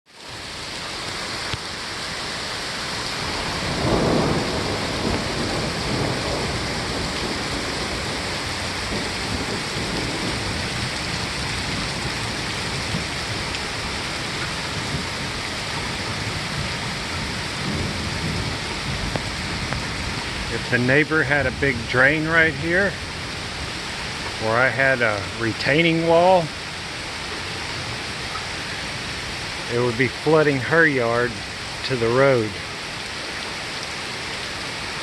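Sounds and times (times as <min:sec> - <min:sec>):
heavy rain: 0:00.1 - 0:35.0.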